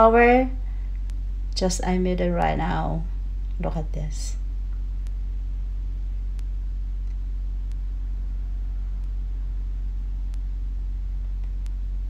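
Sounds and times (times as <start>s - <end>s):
low hum with faint buzz: 0.0s - 12.0s.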